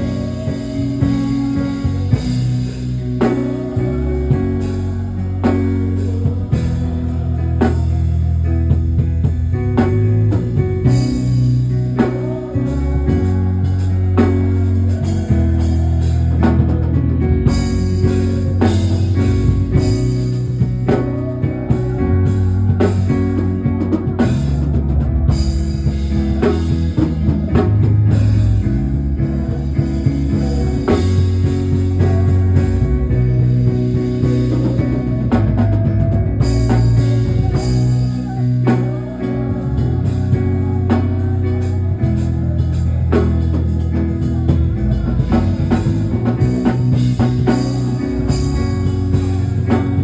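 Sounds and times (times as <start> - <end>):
live band music: 0.0 - 50.0
sustained low bass notes: 0.0 - 50.0.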